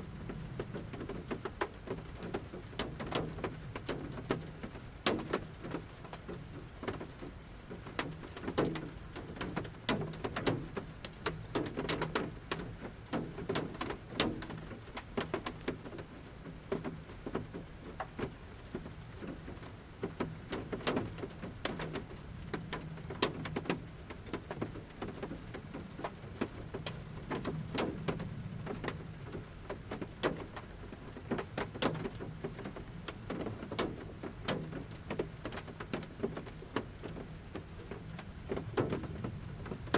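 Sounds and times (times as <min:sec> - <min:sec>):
raindrops drumming on metal roof: 0:00.0 - 0:39.9.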